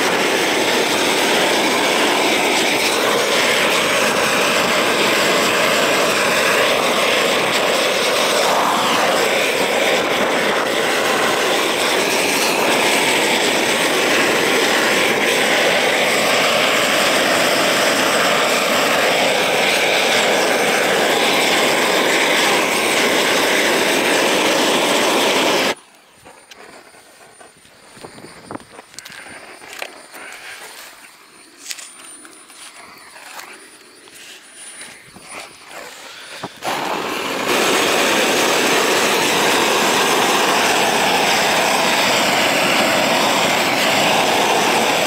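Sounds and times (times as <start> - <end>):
gas torch burning loudly: 0.0 - 45.0.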